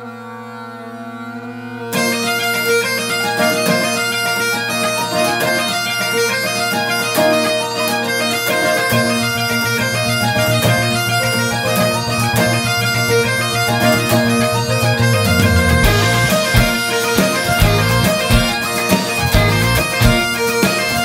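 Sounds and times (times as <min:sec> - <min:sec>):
bagpipe drones: 0:00.0 - 0:21.0
deeper low bagpipe part: 0:00.0 - 0:21.0
bagpipe chanter playing fast tune: 0:00.8 - 0:21.0.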